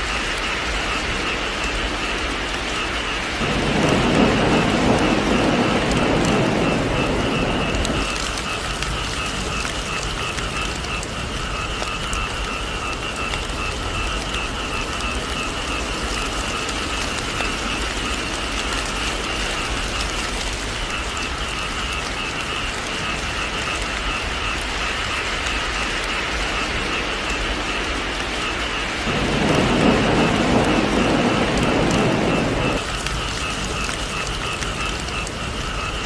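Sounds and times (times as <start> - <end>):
heavy rain on a roof: 0.0 - 36.0
thunder rumble: 0.0 - 36.0.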